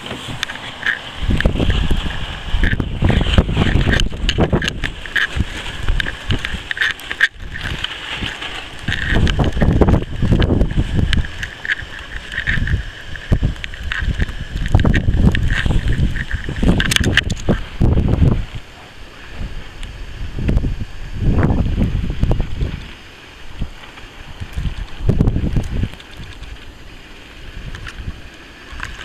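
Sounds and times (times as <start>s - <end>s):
steady high hiss: 0.0s - 29.0s
wind buffeting microphone: 0.0s - 29.0s.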